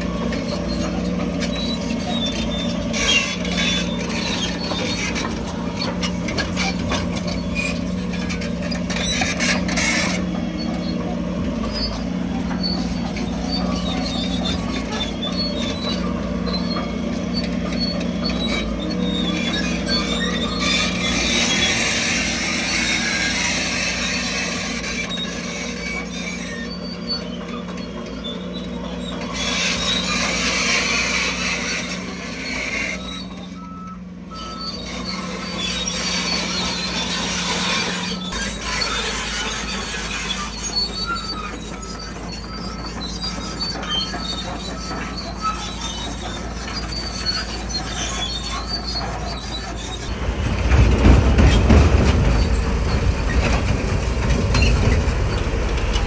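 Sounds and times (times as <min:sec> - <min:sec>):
bulldozer diesel engine running: 0:00.0 - 0:56.0
steel tracks squeaking: 0:00.0 - 0:56.0.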